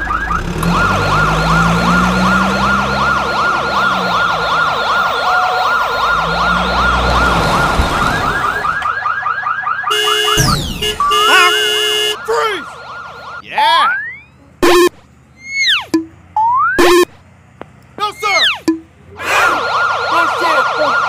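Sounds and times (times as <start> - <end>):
police siren yelping: 0.0 - 17.2, 18.0 - 21.0.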